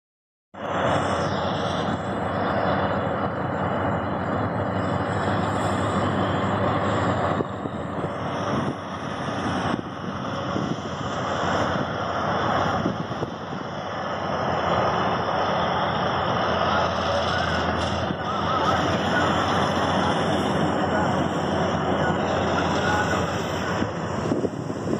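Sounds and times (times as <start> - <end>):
combine harvester running: 0.6 - 24.9.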